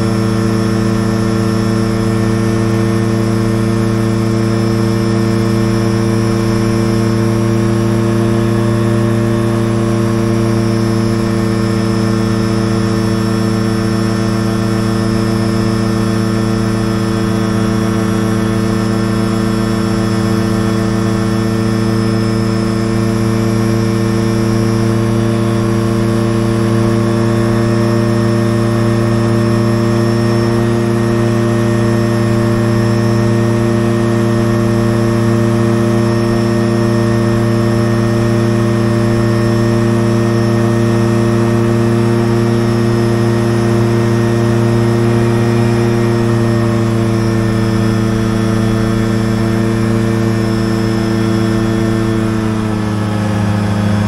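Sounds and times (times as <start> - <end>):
light aircraft engine and propeller: 0.0 - 54.0.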